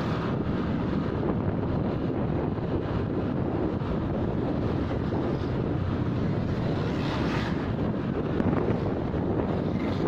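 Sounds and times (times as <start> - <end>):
road noise: 0.0 - 10.0
wind rushing over microphone: 0.0 - 10.0.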